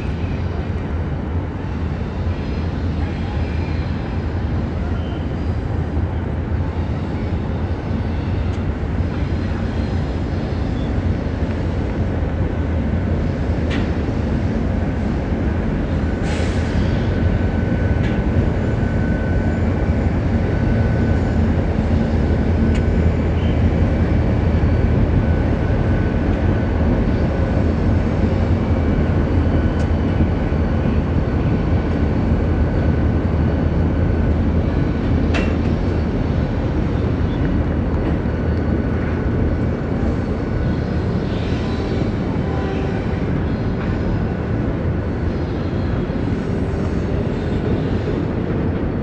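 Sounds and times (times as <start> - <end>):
train wheels rumbling on bridge: 5.4 - 49.0.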